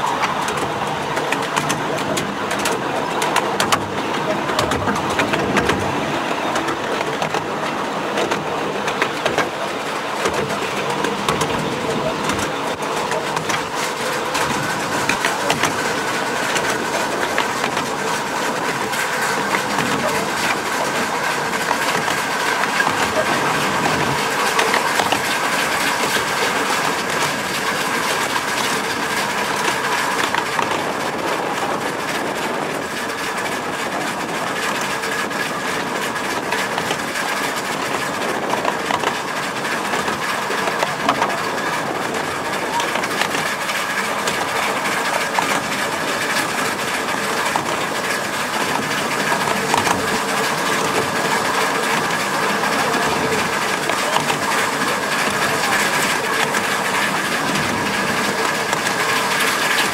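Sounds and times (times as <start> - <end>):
miniature train running: 0.0 - 59.9
wheels clicking over rail joints: 0.0 - 59.9.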